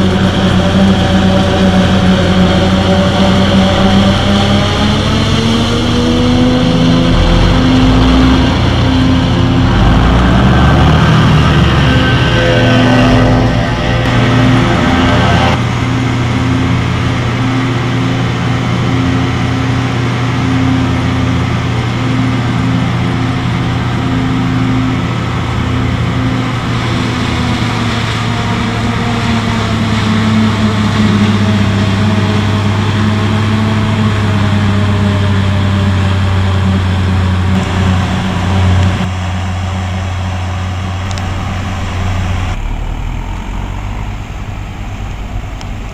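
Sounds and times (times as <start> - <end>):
heavy diesel farm machinery running: 0.0 - 45.9.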